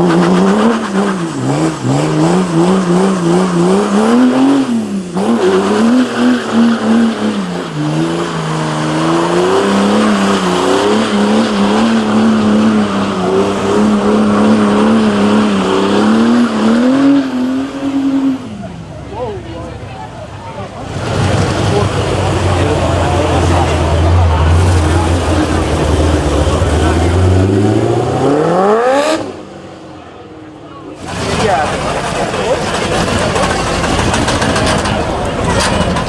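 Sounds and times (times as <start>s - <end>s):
car engine revving high: 0.0s - 36.0s.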